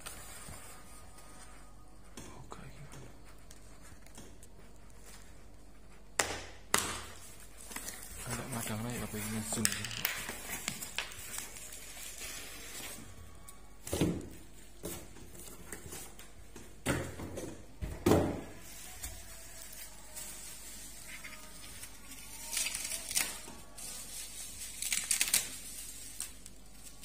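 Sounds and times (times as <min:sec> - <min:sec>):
bubble wrap crinkling: 0:00.0 - 0:16.4, 0:18.4 - 0:27.0.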